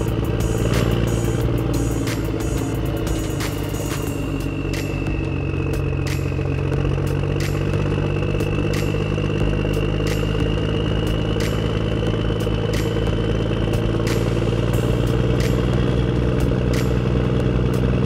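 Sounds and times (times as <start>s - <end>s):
toy tractor motor hum and whine: 0.0s - 18.0s.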